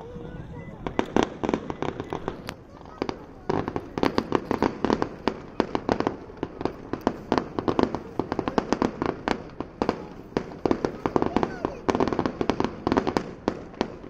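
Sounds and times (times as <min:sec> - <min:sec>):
fireworks bangs and crackling pops: 0:00.2 - 0:14.0.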